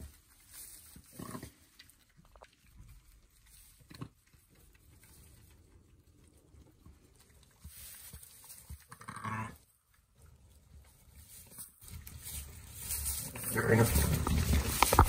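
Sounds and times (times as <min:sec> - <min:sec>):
rustling in straw: 0:00.0 - 0:15.0.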